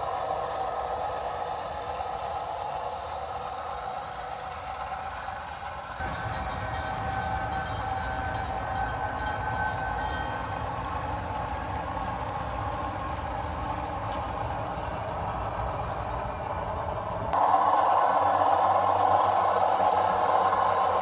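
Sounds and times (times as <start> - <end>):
model train whine and rumble: 0.0 - 21.0.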